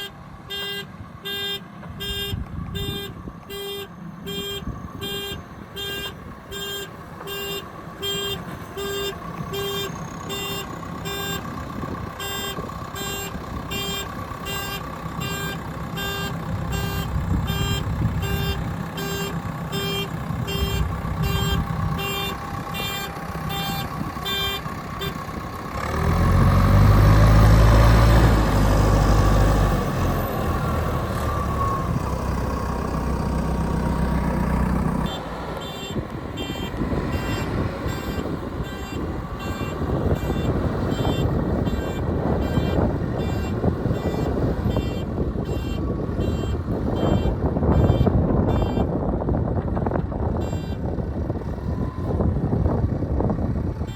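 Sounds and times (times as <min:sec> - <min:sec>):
diesel engine revving: 0:00.0 - 0:53.9.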